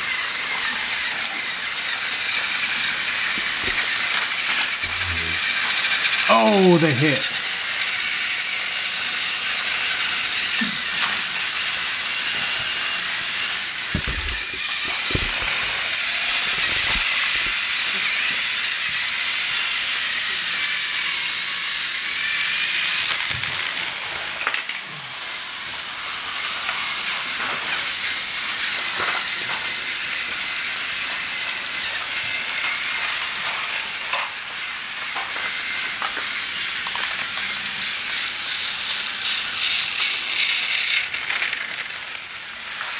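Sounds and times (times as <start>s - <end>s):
toy train motors whirring: 0.0s - 42.9s.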